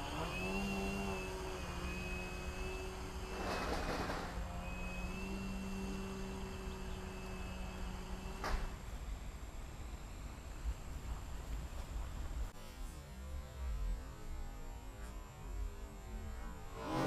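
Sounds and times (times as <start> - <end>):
model aircraft motor hum: 0.0 - 17.0.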